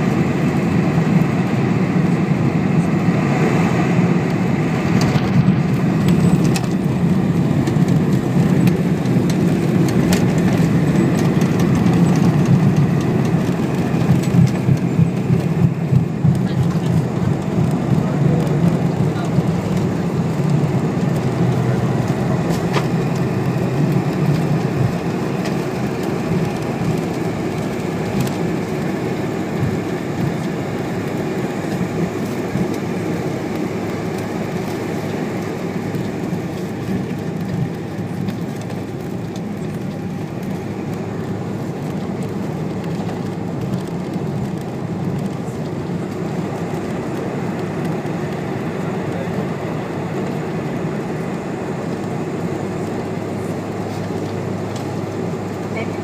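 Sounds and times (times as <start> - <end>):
jet cabin low rumble: 0.0 - 56.0.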